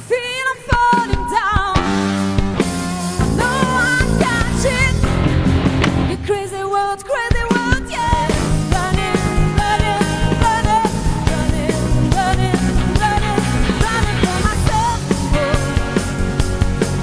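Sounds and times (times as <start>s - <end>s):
female lead vocal: 0.0s - 2.1s, 3.0s - 16.4s
drums keeping steady beat: 0.0s - 17.0s
rock band playing: 0.0s - 17.0s.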